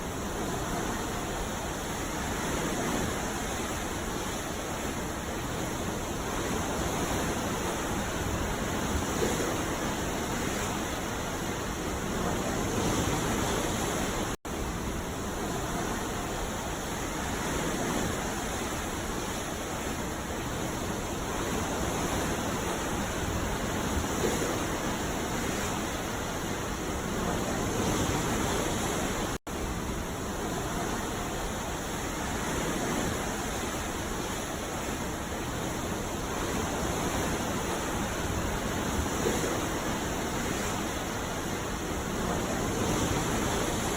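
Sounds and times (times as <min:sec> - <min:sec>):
sea waves rushing: 0:00.0 - 0:43.9.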